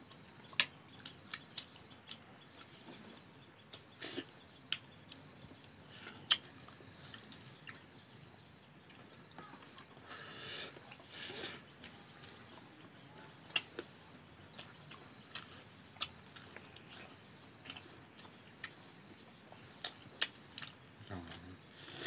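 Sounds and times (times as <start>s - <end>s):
faint high-pitched whine: 0.0s - 22.0s.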